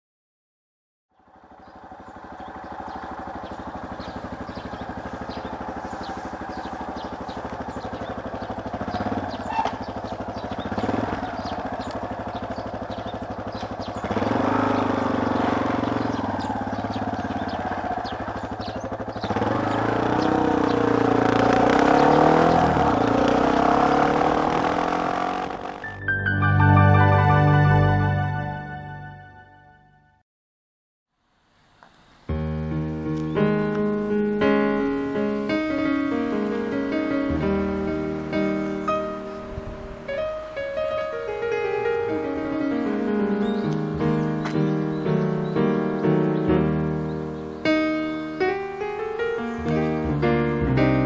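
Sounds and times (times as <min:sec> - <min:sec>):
motorcycle engine running: 0:01.1 - 0:26.0, 0:32.3 - 0:51.0.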